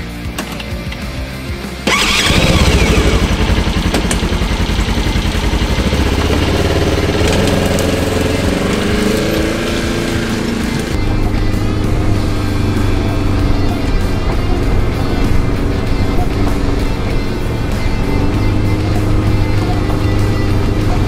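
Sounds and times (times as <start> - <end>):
engine starting and running: 1.8 - 21.0.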